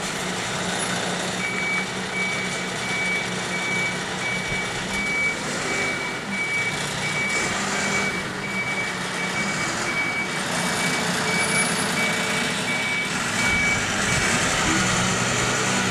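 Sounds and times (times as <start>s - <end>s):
vehicle engine running: 0.0s - 15.9s
reversing alarm beeping: 1.4s - 15.9s.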